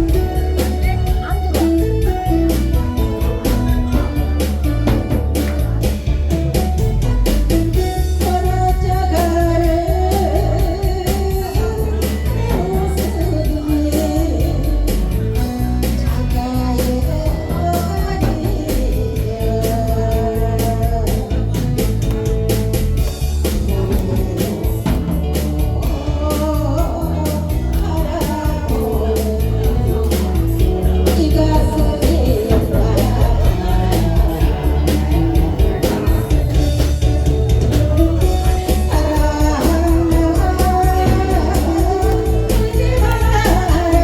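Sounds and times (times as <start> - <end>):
band with bass and guitar: 0.0 - 44.0
person singing: 0.0 - 44.0.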